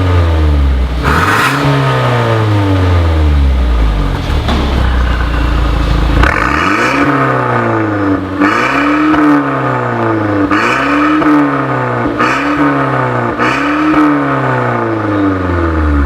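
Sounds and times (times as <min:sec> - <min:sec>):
car engine revving: 0:00.9 - 0:15.1.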